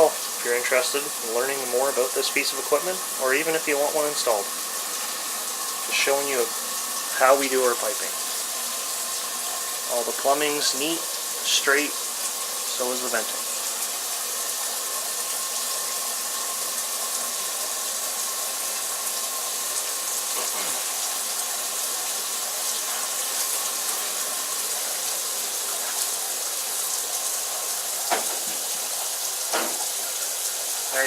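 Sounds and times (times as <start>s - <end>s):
water rushing from sink tap: 0.0s - 31.0s.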